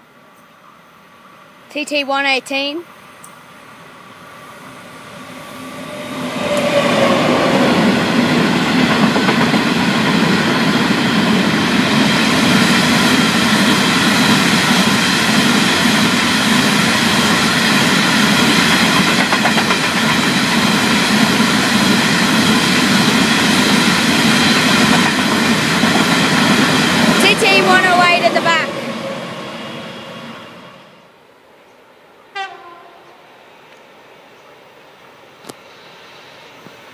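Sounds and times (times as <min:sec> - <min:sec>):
diesel locomotive passing: 0:02.9 - 0:35.2.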